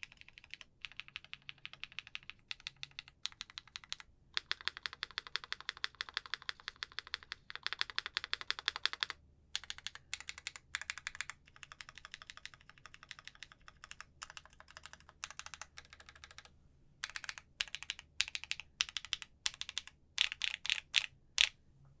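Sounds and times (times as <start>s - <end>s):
fast mechanical keyboard typing: 0.0s - 21.5s.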